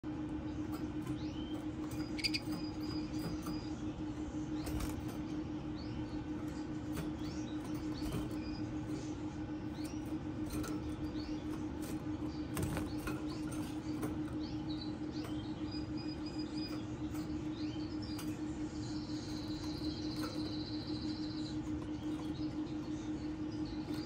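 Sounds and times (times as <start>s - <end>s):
canaries chirping: 0.0s - 24.0s
low hum: 0.0s - 24.0s
canary trill: 0.4s - 24.0s.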